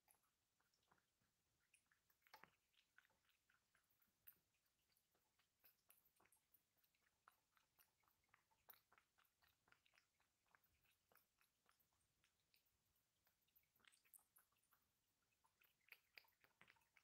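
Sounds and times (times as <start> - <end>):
cat chewing from metal bowl: 0.0 - 17.0.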